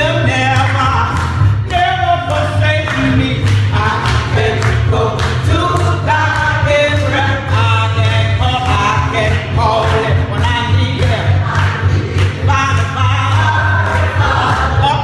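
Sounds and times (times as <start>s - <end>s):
gospel singing with band: 0.0s - 15.0s.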